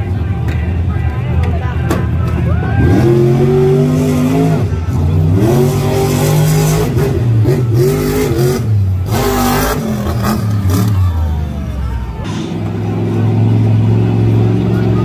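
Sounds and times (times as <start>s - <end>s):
monster truck engine revving: 2.2s - 15.0s.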